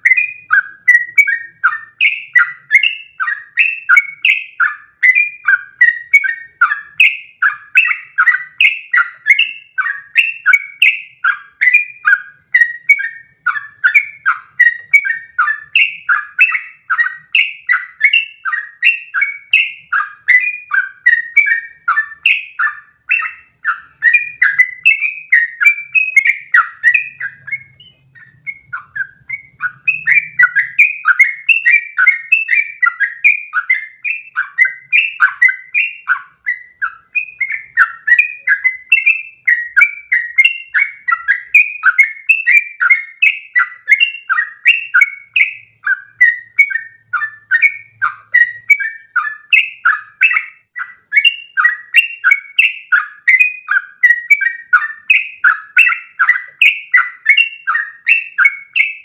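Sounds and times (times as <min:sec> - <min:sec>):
bird chirping song: 0:00.0 - 0:59.0.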